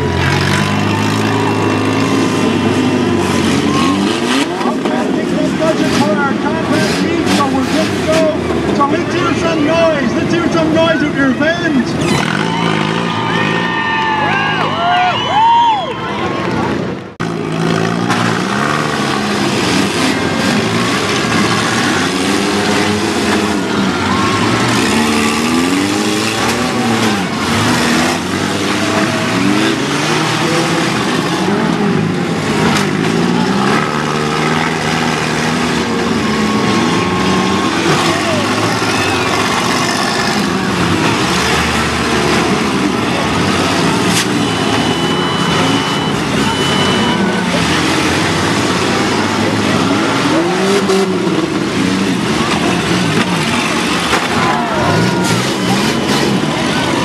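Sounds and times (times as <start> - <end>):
small car engines revving: 0.0 - 15.0, 16.3 - 57.0.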